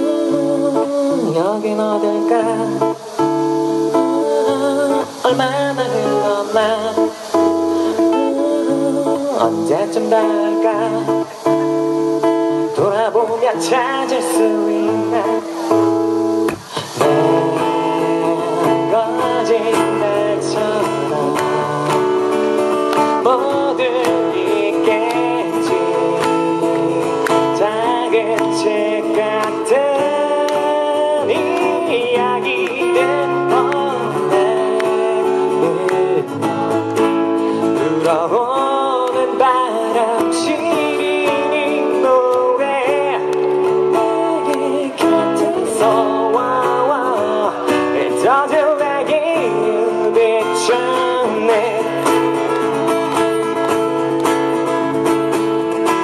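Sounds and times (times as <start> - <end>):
man singing: 0.0 - 56.0
strummed acoustic guitar: 0.0 - 56.0.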